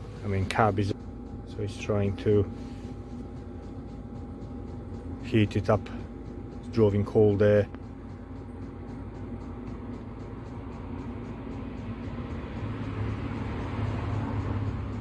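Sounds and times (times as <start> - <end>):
heater fan and burner humming: 0.0 - 15.0.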